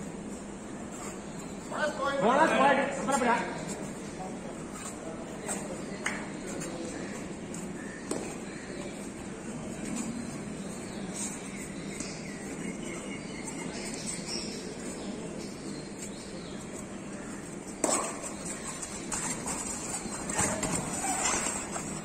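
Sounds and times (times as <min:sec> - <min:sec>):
murmur of crowd indoors: 0:00.0 - 0:22.0.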